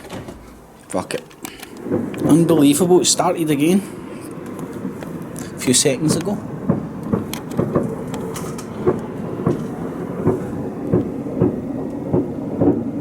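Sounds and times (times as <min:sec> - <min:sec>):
loud echoing bangs: 0:01.6 - 0:13.0.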